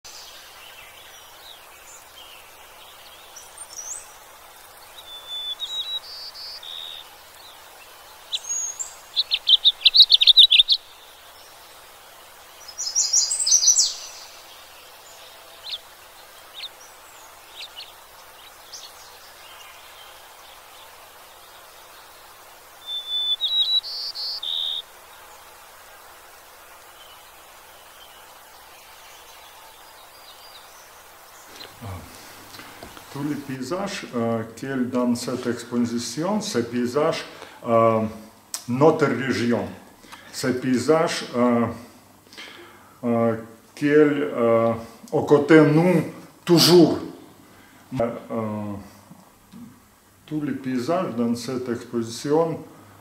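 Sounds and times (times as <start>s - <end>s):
songbirds singing: 0.0s - 53.0s
steady faint hiss: 0.0s - 53.0s.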